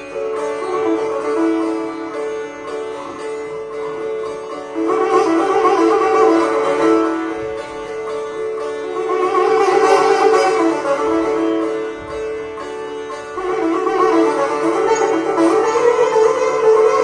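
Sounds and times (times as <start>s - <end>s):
sitar melody with drone: 0.0s - 17.0s.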